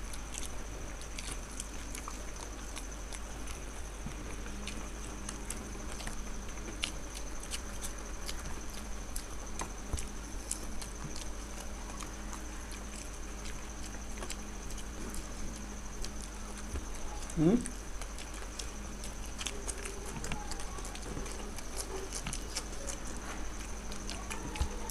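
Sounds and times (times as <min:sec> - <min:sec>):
people chewing: 0:00.0 - 0:24.9.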